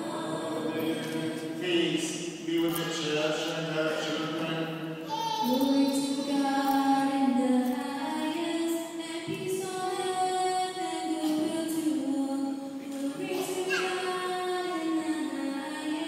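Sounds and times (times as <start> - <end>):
voices singing a slow hymn: 0.0 - 16.0.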